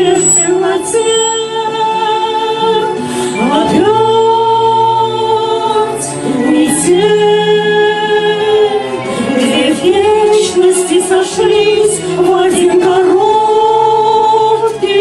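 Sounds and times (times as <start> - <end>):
musical accompaniment: 0.0 - 15.0
women singing a duet: 0.0 - 15.0.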